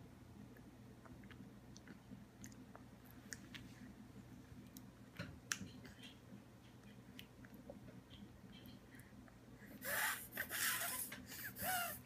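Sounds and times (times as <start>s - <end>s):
baby mouthing and chewing: 0.5s - 12.0s.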